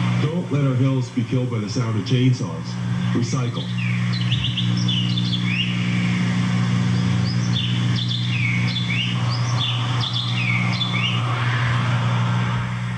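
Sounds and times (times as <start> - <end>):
birds chirping: 0.0 - 12.8
steady low hum: 0.0 - 12.9.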